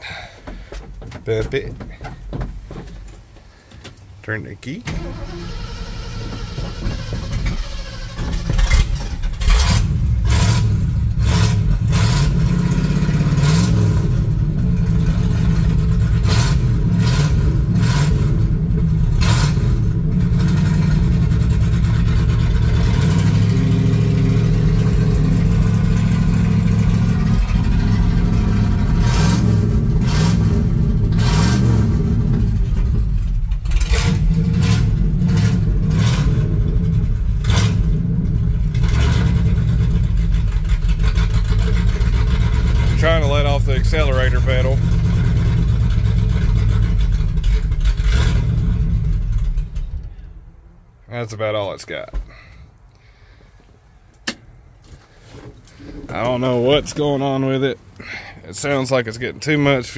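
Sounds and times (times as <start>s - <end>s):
engine crackles: 0.0s - 50.6s
pickup engine cranking and running: 0.0s - 50.7s.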